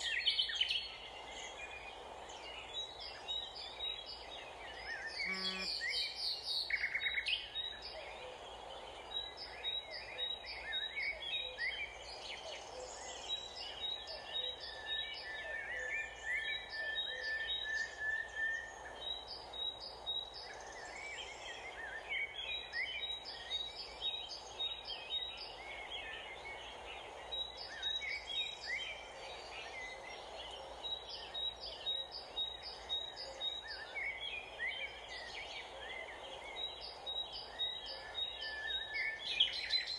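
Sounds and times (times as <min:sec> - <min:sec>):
outdoor background noise: 0:00.0 - 0:39.9
wild birds chirping: 0:00.0 - 0:39.9.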